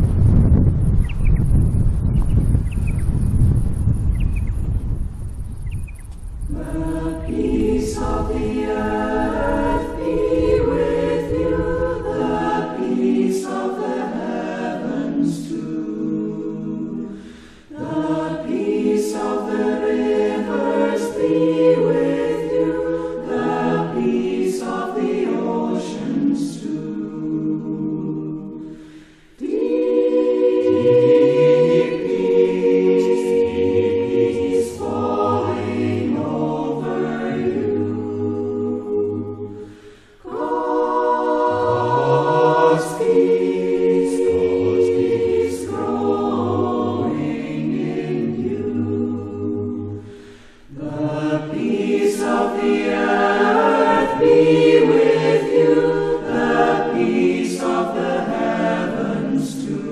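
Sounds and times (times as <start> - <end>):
choir singing: 6.5 - 59.9.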